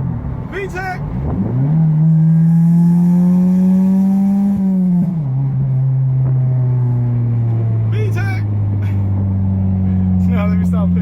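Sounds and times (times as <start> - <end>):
loud car engine droning: 0.0 - 11.0.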